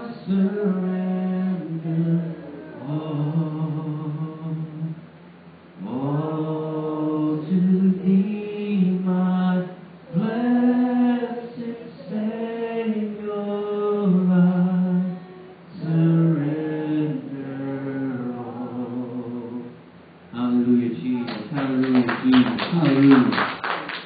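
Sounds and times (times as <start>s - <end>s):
man singing a hymn: 0.0s - 5.0s, 5.8s - 23.3s.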